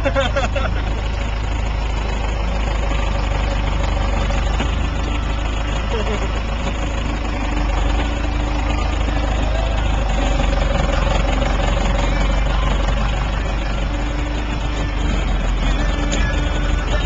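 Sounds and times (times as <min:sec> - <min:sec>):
diesel engine running at low revs: 0:00.0 - 0:17.0.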